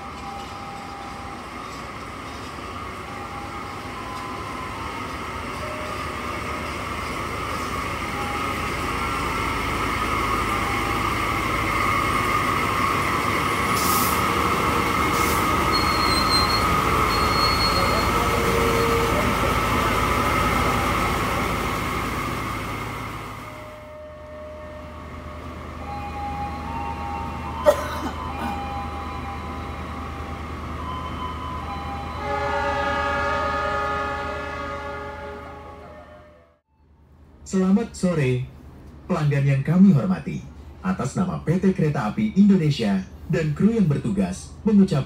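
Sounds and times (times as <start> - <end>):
passenger train rolling: 0.0 - 45.0.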